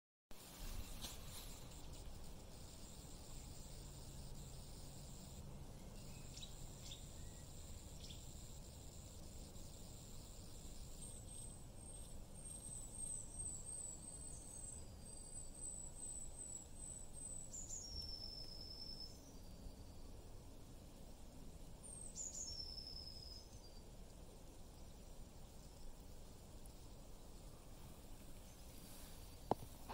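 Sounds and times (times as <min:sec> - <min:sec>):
small songbird singing: 0:00.8 - 0:20.3, 0:21.8 - 0:29.9.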